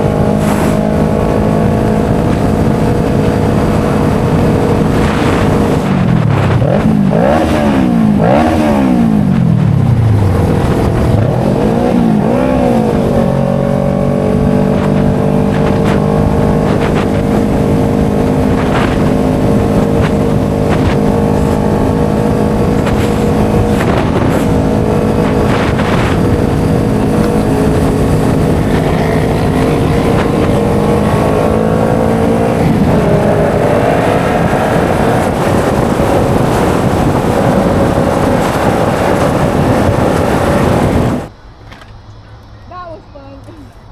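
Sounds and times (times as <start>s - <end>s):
vehicle engine revving: 0.0s - 41.3s.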